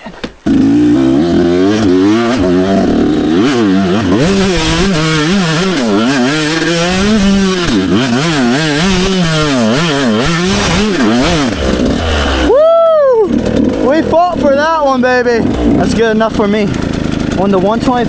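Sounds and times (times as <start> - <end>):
dirt bike engine revving: 0.4 - 18.0.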